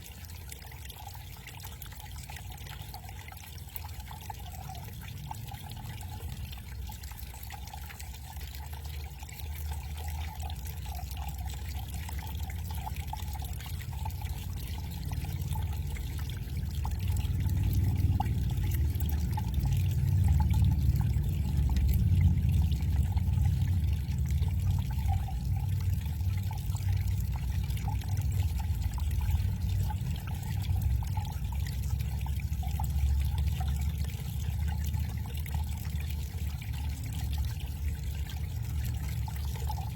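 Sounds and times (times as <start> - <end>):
garden waterfall splashing: 0.0 - 39.9.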